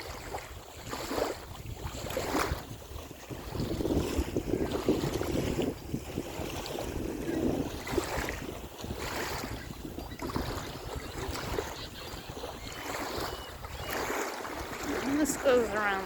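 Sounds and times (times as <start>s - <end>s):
waves washing on shore: 0.0s - 16.0s
wind gusting on microphone: 0.0s - 16.0s.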